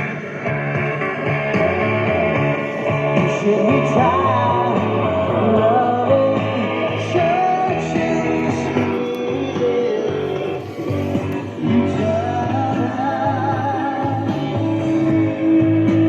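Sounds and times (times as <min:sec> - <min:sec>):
rock and roll song: 0:00.0 - 0:16.0.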